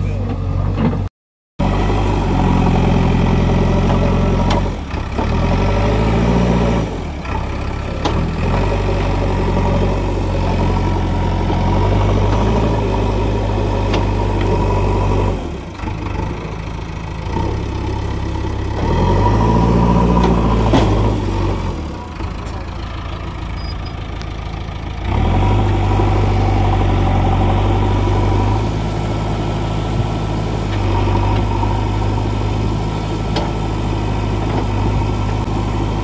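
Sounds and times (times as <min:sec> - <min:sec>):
diesel engine under load: 0:00.0 - 0:36.0.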